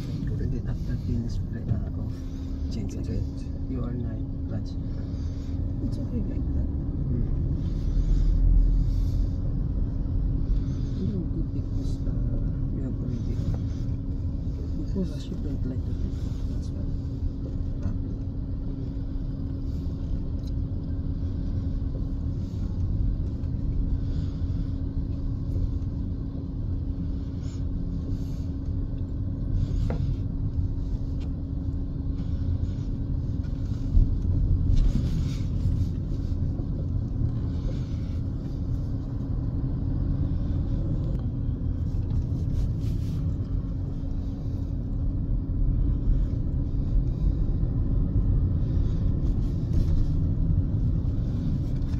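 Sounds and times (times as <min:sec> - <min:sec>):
car driving rumble from inside: 0:00.0 - 0:51.9
constant hum: 0:00.0 - 0:51.9.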